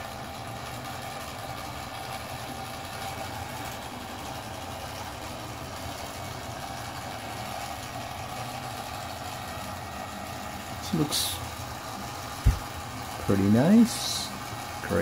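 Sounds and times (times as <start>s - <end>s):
electric motor and gears whirring: 0.0s - 15.0s.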